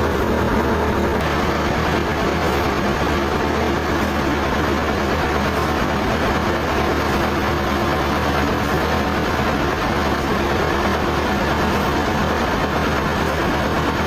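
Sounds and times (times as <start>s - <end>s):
low engine hum: 0.0s - 14.0s
sawmill machinery running: 0.0s - 14.0s.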